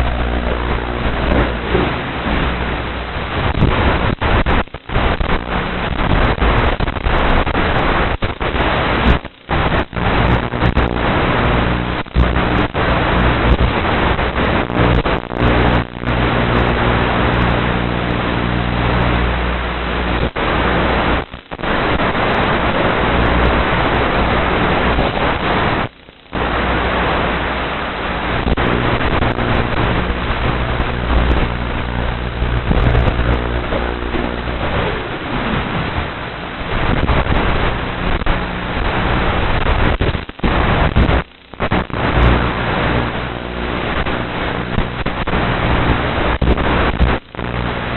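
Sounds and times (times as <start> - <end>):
wind rush over microphone: 0.0 - 47.9.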